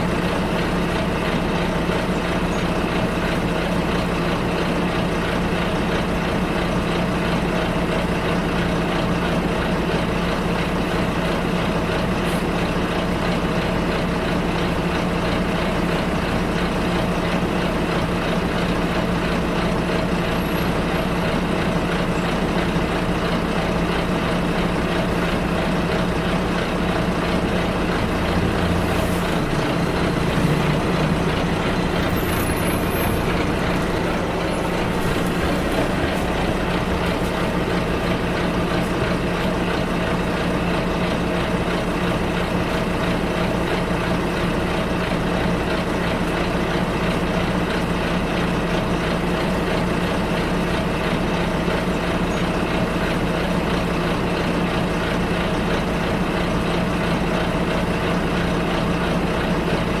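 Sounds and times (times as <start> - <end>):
bus engine hum: 0.0 - 60.0
road noise rumble: 0.0 - 60.0.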